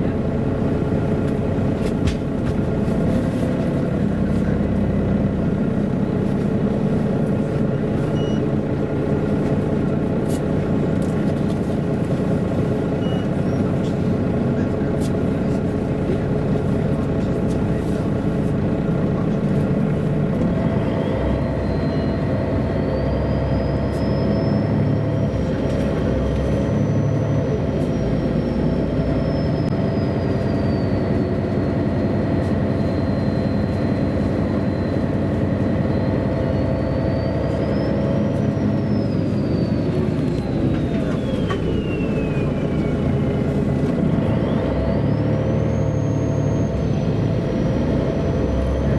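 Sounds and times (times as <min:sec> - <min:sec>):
bus diesel engine running: 0:00.0 - 0:48.9
high drivetrain whine: 0:00.0 - 0:48.9.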